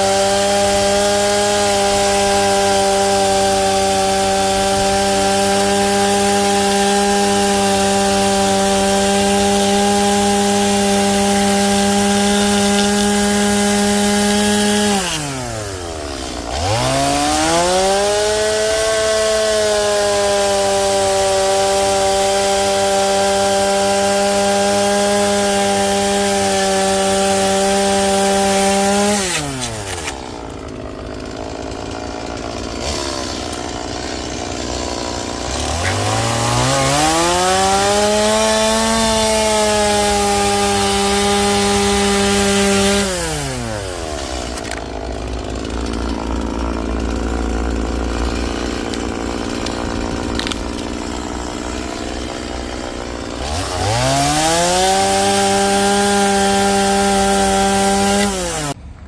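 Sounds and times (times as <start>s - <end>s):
chainsaw cutting into log: 0.0s - 59.0s.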